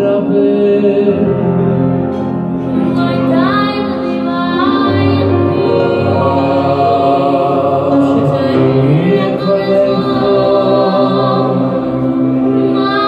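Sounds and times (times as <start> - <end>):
male choir singing in harmony: 0.0 - 13.0.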